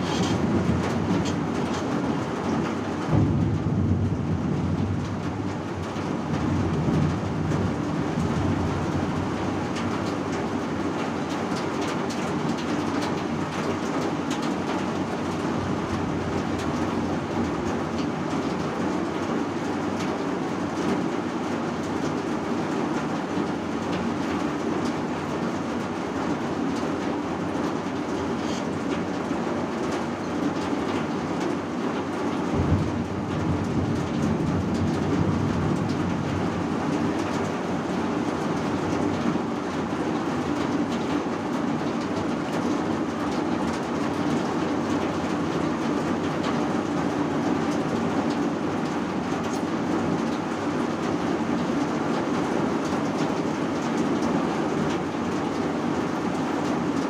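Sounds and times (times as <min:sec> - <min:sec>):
heavy rain rushing: 0:00.0 - 0:57.0
raindrops ticking on a surface: 0:00.0 - 0:57.0.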